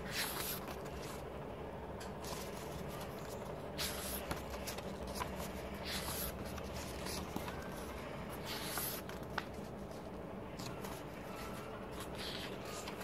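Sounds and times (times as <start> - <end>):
paper packaging rustling: 2.2 - 13.0.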